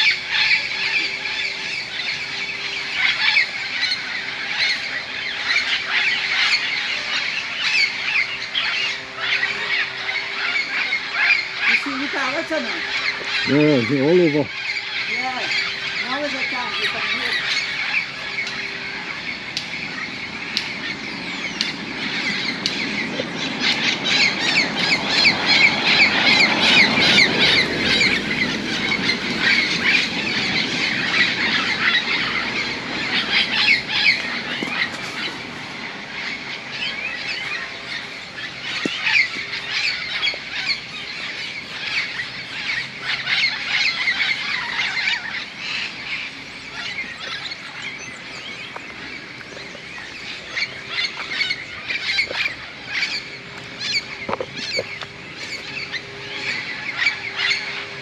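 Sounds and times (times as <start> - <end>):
parrots squawking: 0.0 - 58.0.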